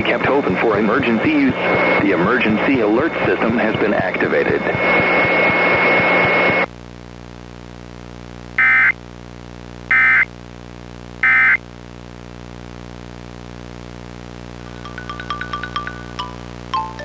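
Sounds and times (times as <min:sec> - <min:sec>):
harsh static with high tone: 0:00.0 - 0:17.0.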